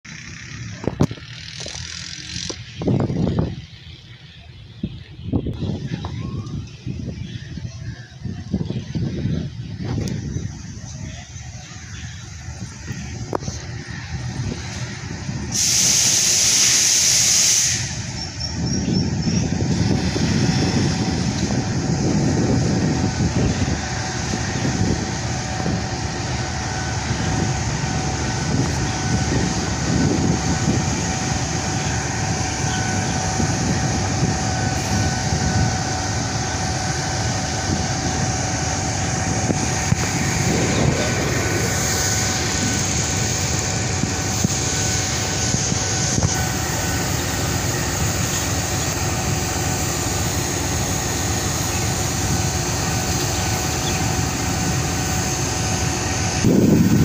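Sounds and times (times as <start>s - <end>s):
rumble of engine and wheels: 0.0s - 57.0s
locomotive hiss: 0.1s - 57.0s
thin steady whine: 0.1s - 57.0s.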